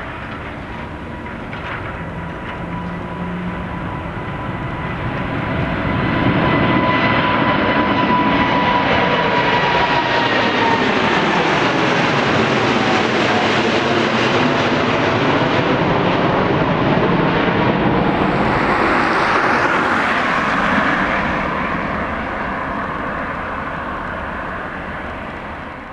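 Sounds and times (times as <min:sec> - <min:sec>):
jet plane passing overhead: 0:00.0 - 0:25.9.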